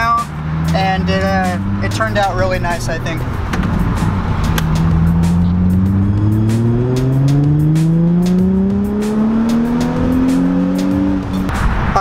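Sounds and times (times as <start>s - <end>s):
background music with beat: 0.0s - 11.8s
car engine accelerating: 0.0s - 12.0s.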